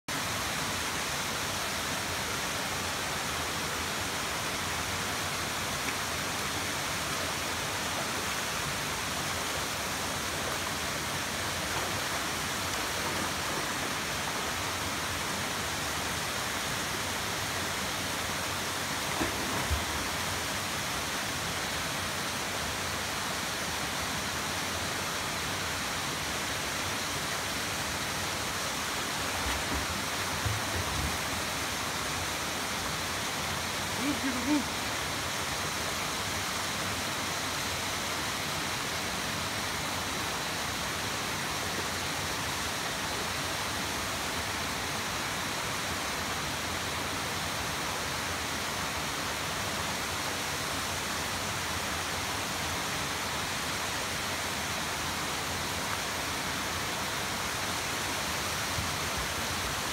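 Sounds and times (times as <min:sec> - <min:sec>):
waterfall rushing over rocks: 0:00.1 - 0:59.9.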